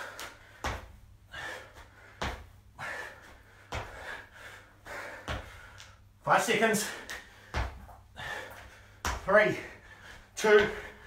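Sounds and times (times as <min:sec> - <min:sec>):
feet landing on concrete: 0:00.0 - 0:06.0, 0:06.8 - 0:11.0
hard breathing: 0:00.0 - 0:06.1, 0:06.7 - 0:11.0.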